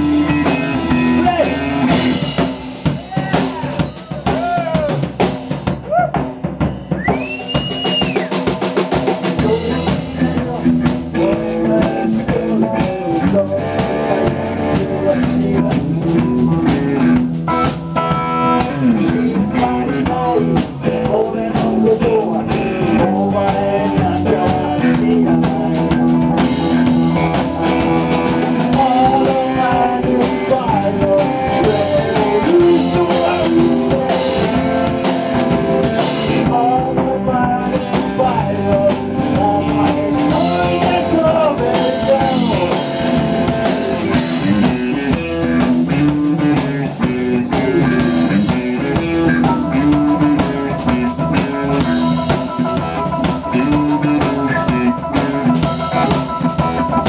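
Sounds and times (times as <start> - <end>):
blues-rock band playing: 0.0 - 57.0.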